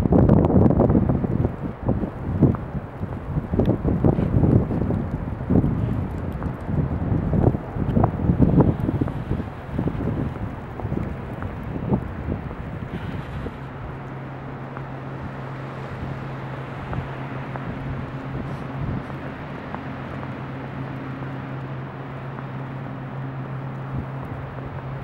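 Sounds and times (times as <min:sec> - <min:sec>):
steady low hum: 0:00.0 - 0:25.0
wind rushing across microphone: 0:00.0 - 0:25.0.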